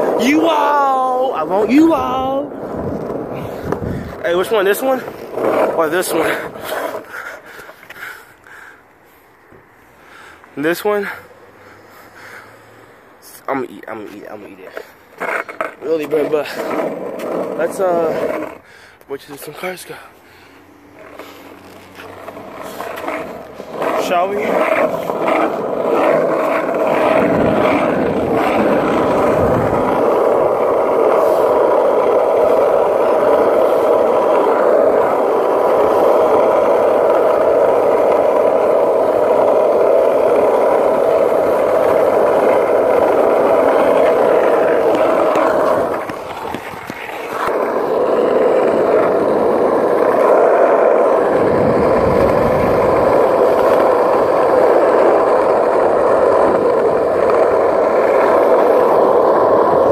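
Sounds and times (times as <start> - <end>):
skateboard wheels rolling on asphalt: 0.0 - 59.9.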